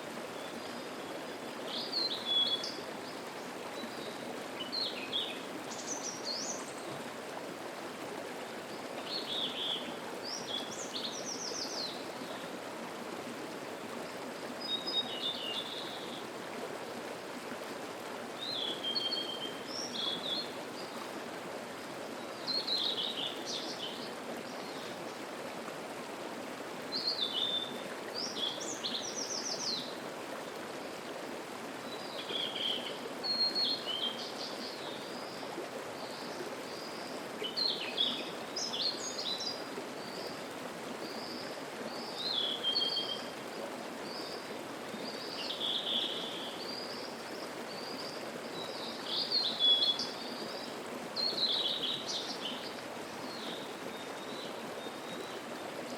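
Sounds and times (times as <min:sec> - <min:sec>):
mountain stream running: 0:00.0 - 0:55.9.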